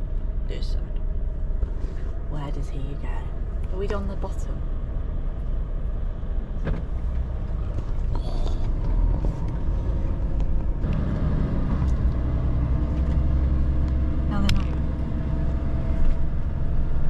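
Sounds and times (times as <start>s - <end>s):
lorry diesel engine running: 0.0s - 17.0s.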